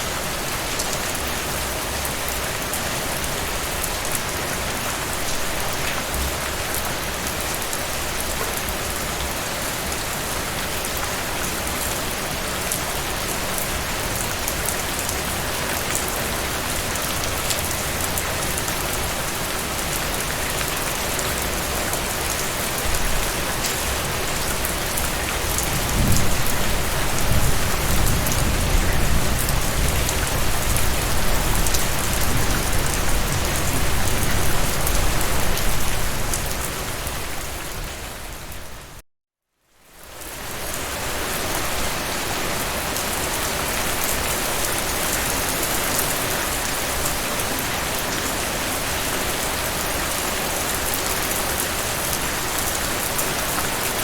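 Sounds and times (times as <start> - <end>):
heavy rain falling: 0.0 - 39.0, 40.2 - 54.0.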